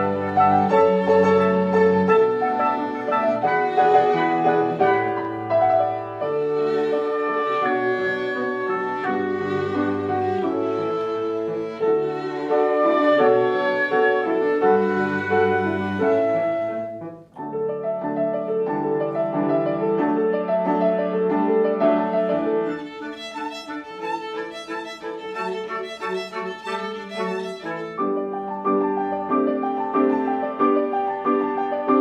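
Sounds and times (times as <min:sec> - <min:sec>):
cello: 0:00.0 - 0:32.0
piano: 0:00.0 - 0:32.0
violin melody: 0:00.0 - 0:32.0.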